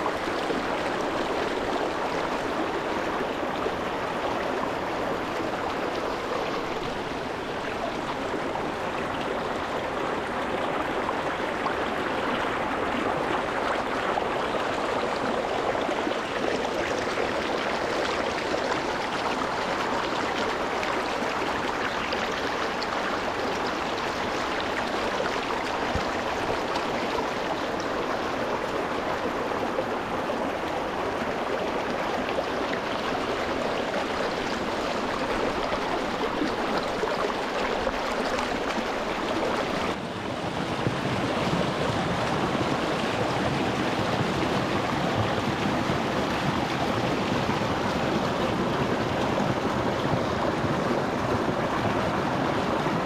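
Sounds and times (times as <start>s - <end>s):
stream babbling over stones: 0.0s - 53.0s.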